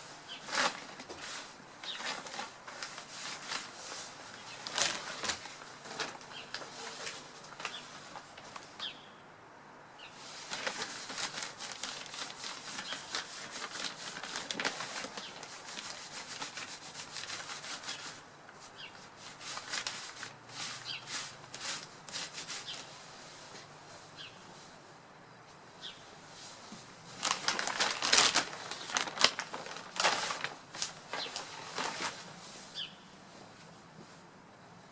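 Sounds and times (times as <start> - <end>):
birds rustling in leaves: 0.0 - 9.1, 10.0 - 24.8, 25.8 - 33.2.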